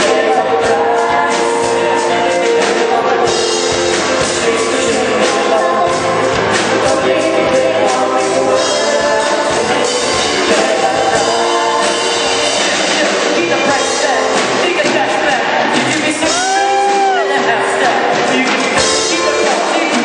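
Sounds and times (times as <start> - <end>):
drum kit: 0.0 - 20.0
guitar: 0.0 - 20.0
person singing: 0.0 - 20.0.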